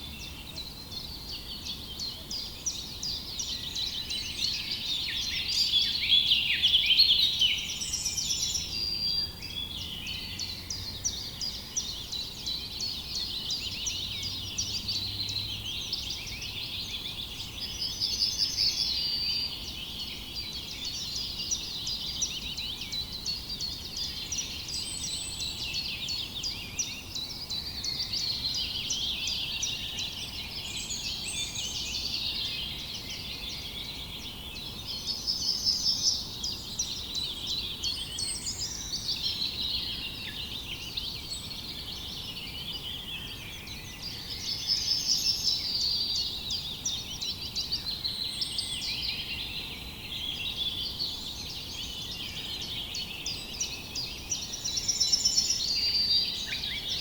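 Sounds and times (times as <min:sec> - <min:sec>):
chorus of songbirds chirping: 0:00.0 - 0:57.0.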